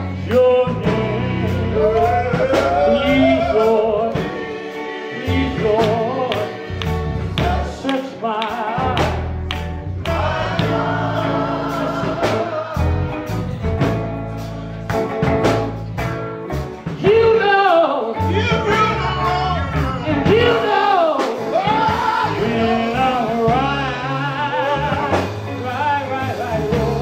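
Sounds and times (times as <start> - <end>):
male vocal group singing gospel: 0.0 - 14.6, 16.8 - 27.0
drums: 0.0 - 27.0
guitar: 0.0 - 27.0.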